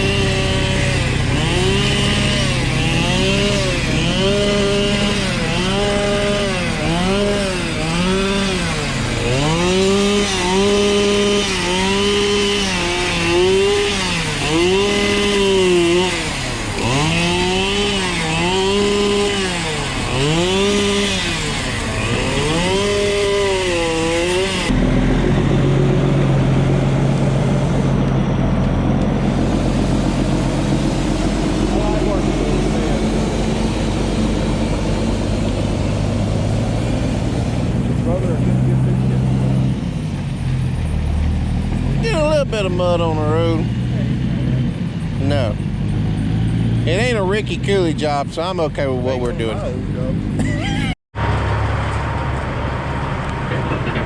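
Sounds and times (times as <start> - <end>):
engine revving: 0.0 - 54.0
steady engine hum: 0.0 - 54.0.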